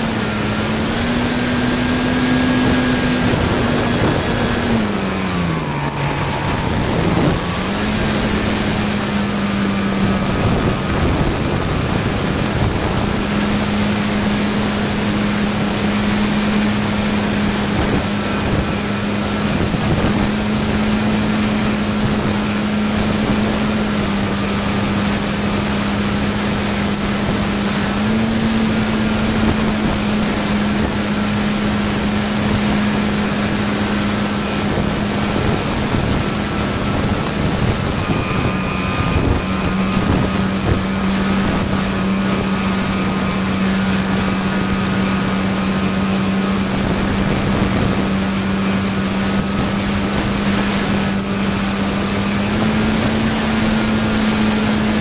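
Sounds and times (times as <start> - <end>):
model plane motor humming: 0.0 - 55.0
wind rush on microphone: 0.0 - 55.0.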